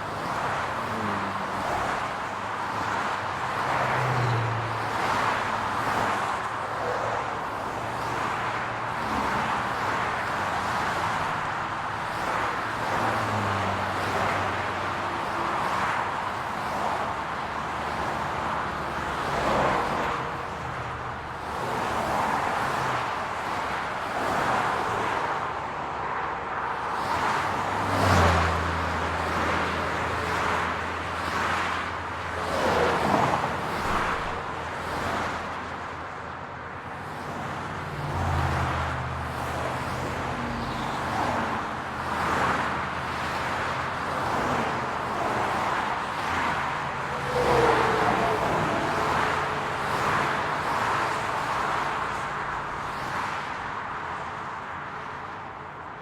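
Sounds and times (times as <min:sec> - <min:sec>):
cars passing by: 0:00.0 - 0:56.0
road traffic hum: 0:00.0 - 0:56.0.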